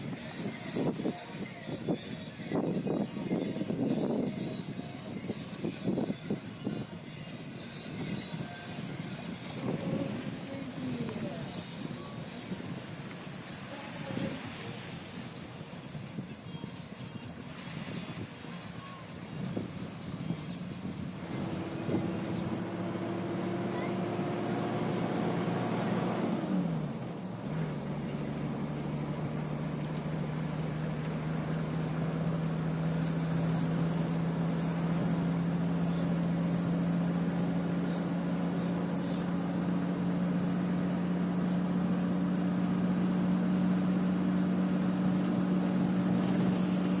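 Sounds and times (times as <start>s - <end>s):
vehicle engine drone: 0.0s - 16.3s, 17.2s - 47.0s
road noise: 0.0s - 47.0s.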